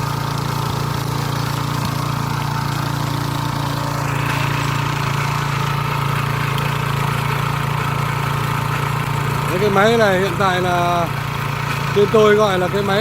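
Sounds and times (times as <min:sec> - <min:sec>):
tiller engine running: 0:00.0 - 0:13.0.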